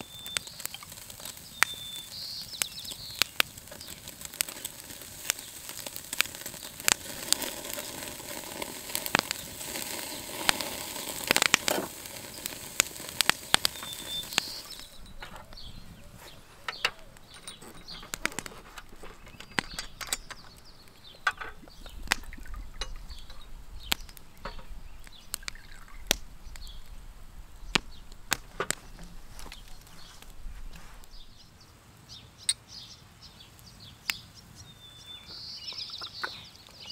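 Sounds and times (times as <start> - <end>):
meat sizzling on a grill: 0.0 - 31.6
coals crackling and popping: 0.0 - 36.9.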